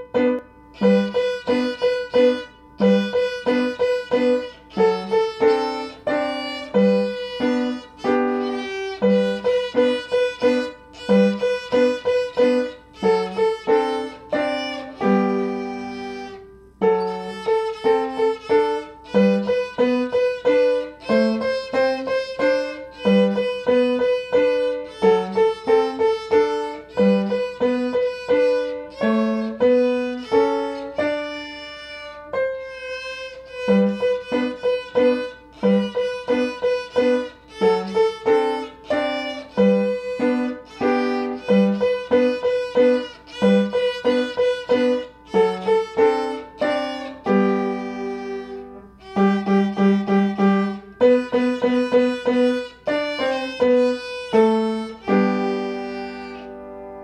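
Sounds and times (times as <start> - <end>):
bowed violin tune: 0.0 - 57.0.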